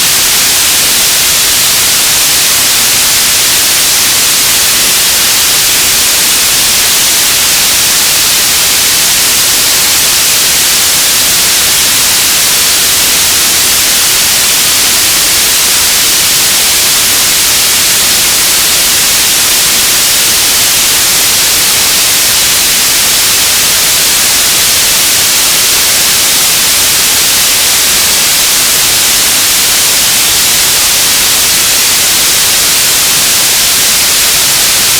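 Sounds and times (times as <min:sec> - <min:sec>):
radio static hiss: 0:00.0 - 0:34.9.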